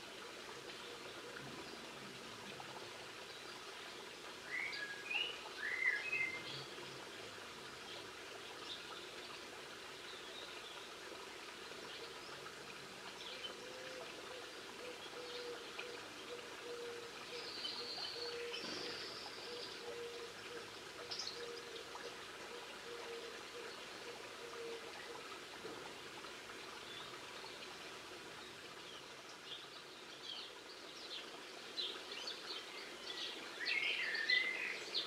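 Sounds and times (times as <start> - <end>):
songbird chirps: 3.2 - 7.0, 7.8 - 26.0, 26.6 - 35.0.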